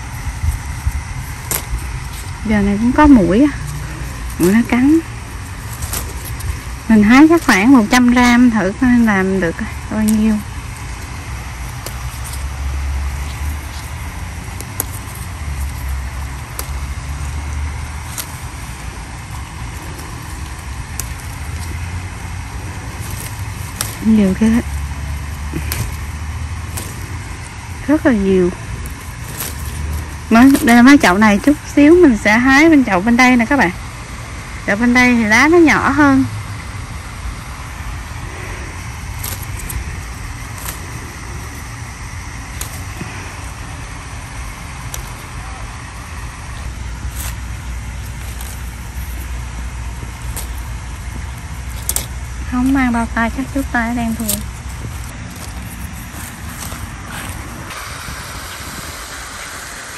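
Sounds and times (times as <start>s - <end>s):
low outdoor rumble: 0.0s - 59.9s
leaves snapping off vine: 0.5s - 31.8s, 38.5s - 46.0s, 46.6s - 57.8s.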